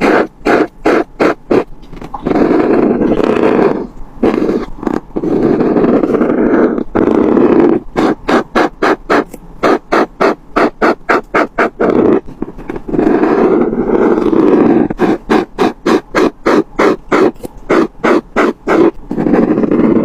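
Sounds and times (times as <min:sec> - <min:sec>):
long scratchy strokes on paper: 0:00.0 - 0:20.0
scribbling on paper: 0:00.0 - 0:20.0.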